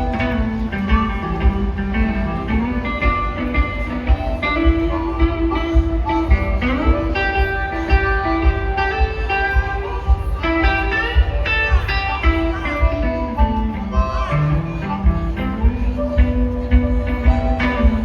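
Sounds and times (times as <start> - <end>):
drum beat: 0.0 - 18.0
lead guitar bending notes: 0.0 - 18.0.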